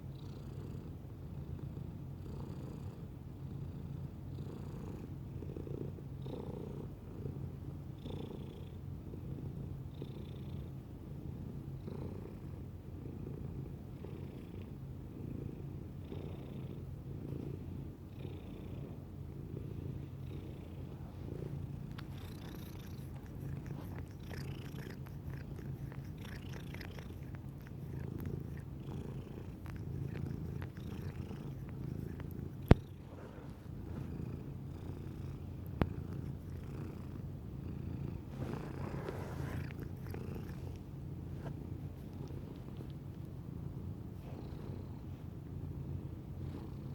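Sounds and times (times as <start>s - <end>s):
cat purring: 0.0s - 46.9s.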